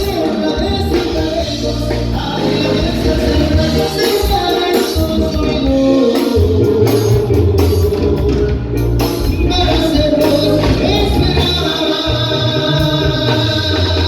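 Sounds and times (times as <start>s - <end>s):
brass band playing: 0.0s - 14.0s
person singing: 0.0s - 14.0s
tuba bass: 0.0s - 14.0s.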